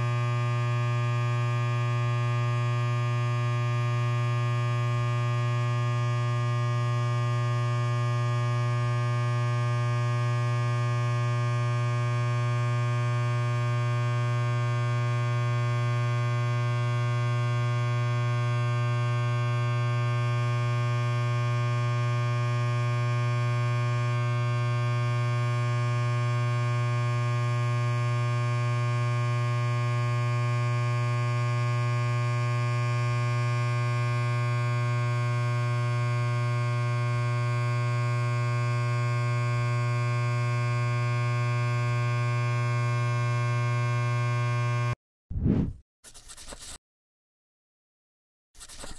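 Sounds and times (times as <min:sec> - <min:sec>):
electric hair clipper buzzing: 0:00.0 - 0:45.0.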